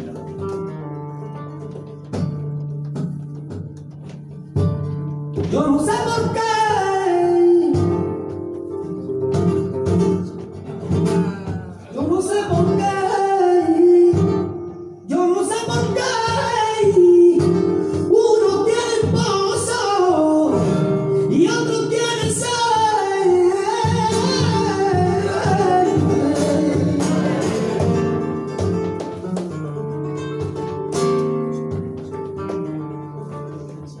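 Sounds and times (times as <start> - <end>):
flamenco guitar plucked and strummed: 0.0 - 34.0
man singing flamenco: 4.4 - 34.0.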